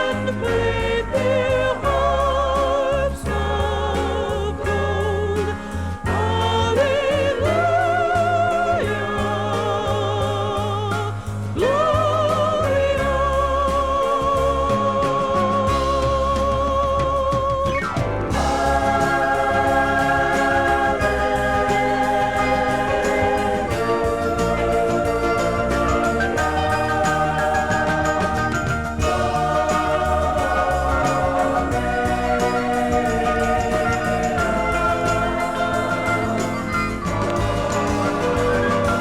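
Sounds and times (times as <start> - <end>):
band with steady bass: 0.0 - 39.0
gospel singer with vibrato: 0.0 - 39.0.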